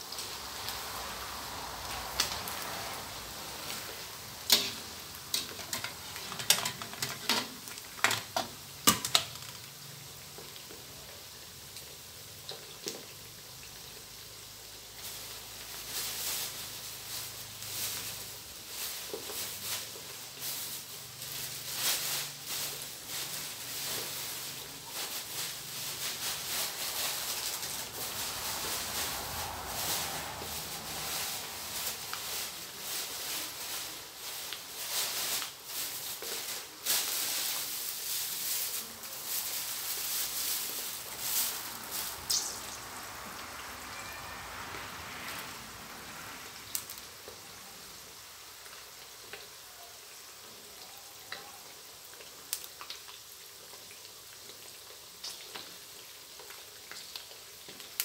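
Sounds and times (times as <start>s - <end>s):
fish deep-frying in oil: 0.0s - 58.0s.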